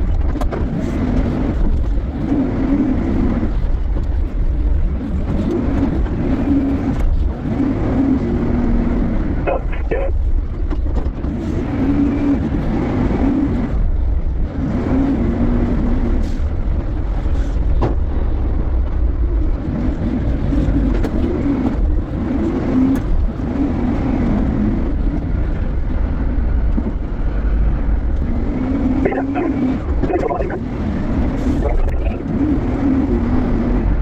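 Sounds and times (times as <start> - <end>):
heavy diesel engine under load: 0.0 - 34.0.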